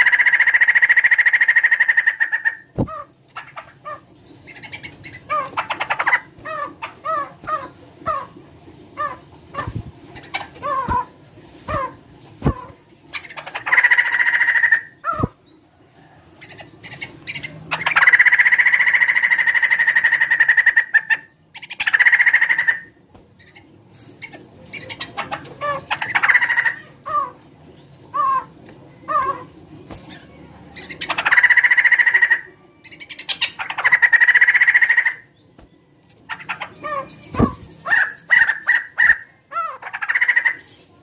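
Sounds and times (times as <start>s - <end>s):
laughingthrush calling: 0.0s - 15.4s, 16.4s - 35.4s, 36.3s - 40.8s.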